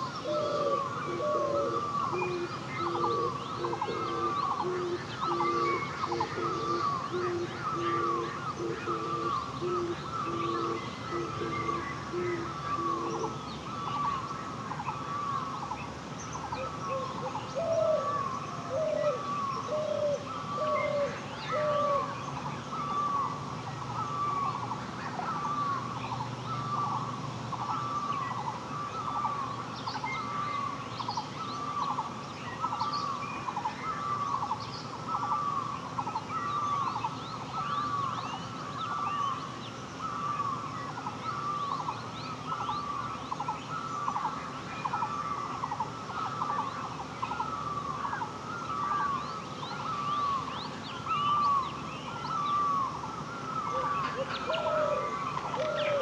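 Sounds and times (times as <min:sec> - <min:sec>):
birds chirping: 0:00.0 - 0:56.0
lower bird call: 0:00.0 - 0:56.0.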